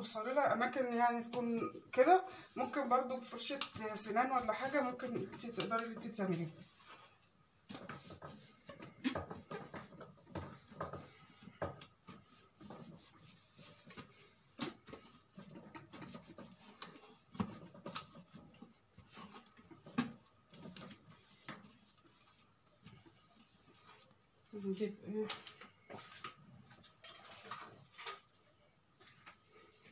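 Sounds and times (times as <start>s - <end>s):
cloth wiping plastic: 0.2s - 26.2s.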